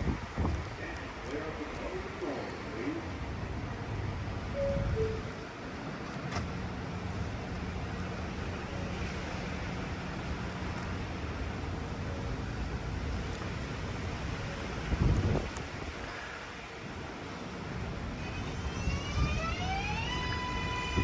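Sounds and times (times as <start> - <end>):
subway train rumbling: 0.0 - 21.0.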